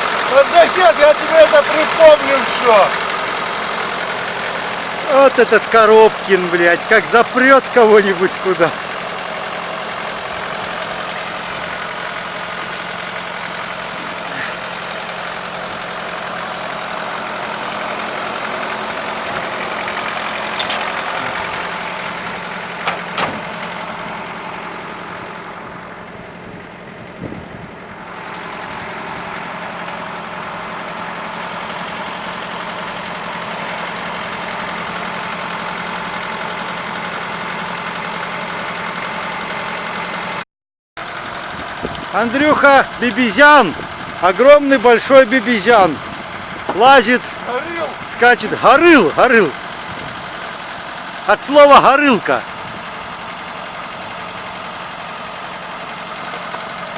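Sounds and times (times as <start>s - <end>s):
vehicle engine idling: 0.0s - 40.4s, 41.0s - 56.9s.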